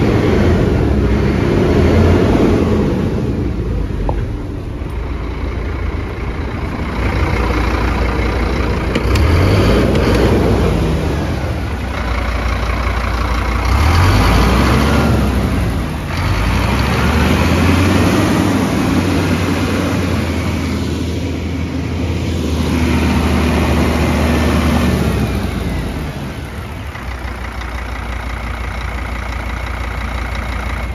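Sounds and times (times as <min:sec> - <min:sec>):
truck diesel engine revving: 0:00.0 - 0:30.9.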